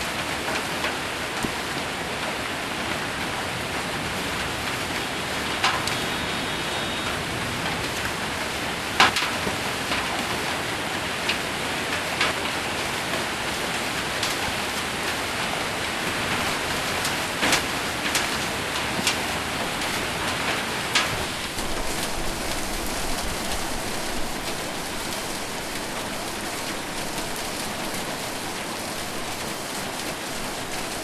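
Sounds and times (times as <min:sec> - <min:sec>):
hailstones hitting a roof: 0:00.0 - 0:31.0
heavy rain on a roof: 0:00.0 - 0:31.0.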